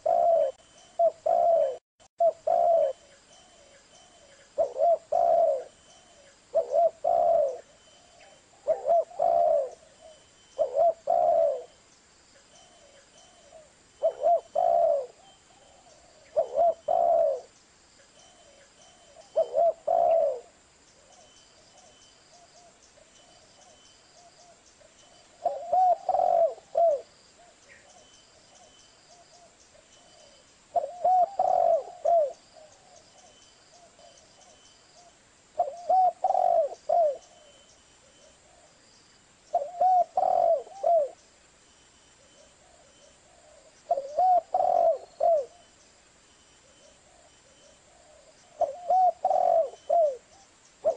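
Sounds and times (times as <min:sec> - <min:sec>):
dove cooing: 0:00.0 - 0:11.8, 0:12.4 - 0:17.6, 0:18.2 - 0:38.8, 0:39.5 - 0:41.2, 0:42.2 - 0:45.7, 0:46.6 - 0:50.9.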